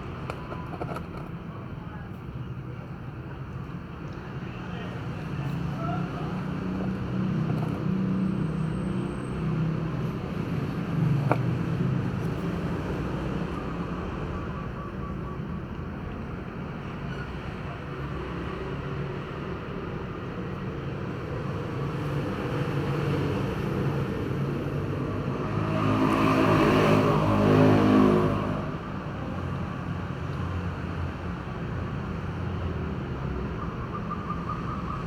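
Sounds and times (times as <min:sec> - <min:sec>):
rumble of motor traffic: 0:00.0 - 0:35.0.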